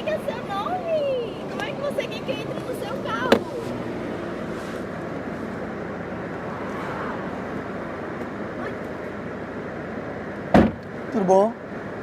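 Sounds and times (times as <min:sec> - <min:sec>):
vehicle and street noise: 0:00.0 - 0:12.0.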